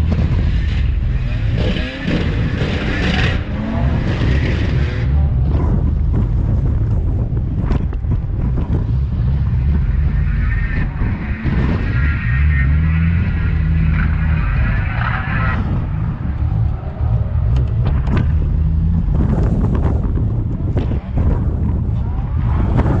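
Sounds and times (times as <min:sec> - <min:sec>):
car engine running hard: 0:00.0 - 0:23.0
wind noise: 0:00.0 - 0:23.0.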